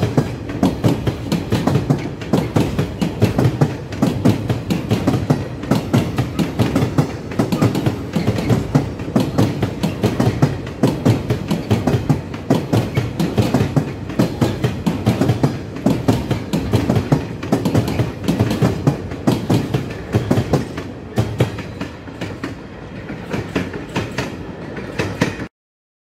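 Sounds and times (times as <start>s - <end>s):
train wheels clacking over rail joints: 0.0s - 25.5s.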